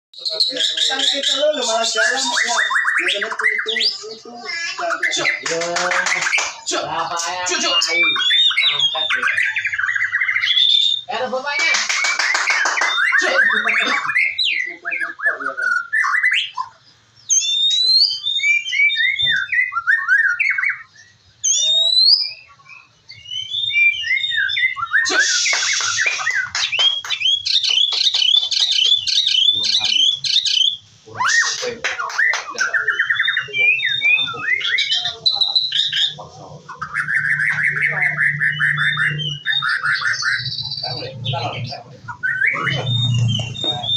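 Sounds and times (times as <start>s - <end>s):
bird singing whistled trills: 0.2s - 11.1s, 11.7s - 43.9s.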